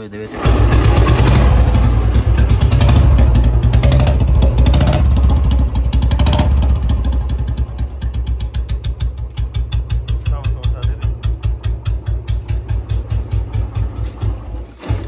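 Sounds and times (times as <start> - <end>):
motorcycle engine idling: 0.3 - 15.0.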